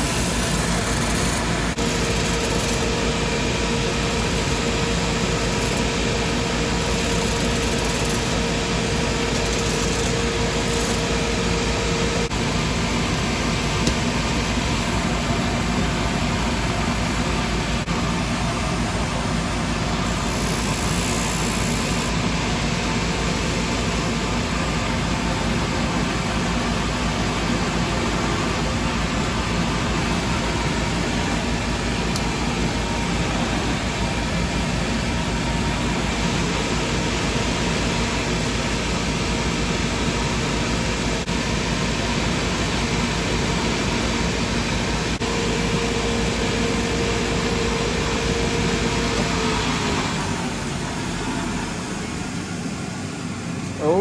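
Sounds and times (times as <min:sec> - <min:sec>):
shoe buffing machine droning: 0:00.0 - 0:54.0.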